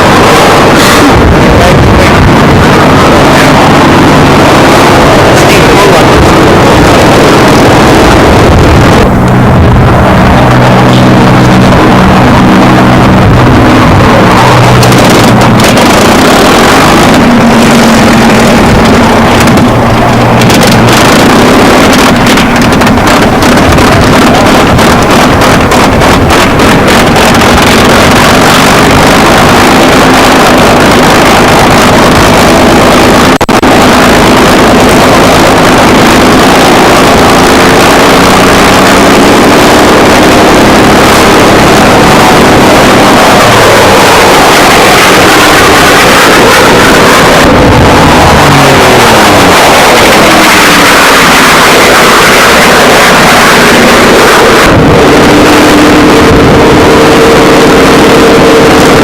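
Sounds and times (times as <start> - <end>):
aircraft engines running: 0.0 - 59.0.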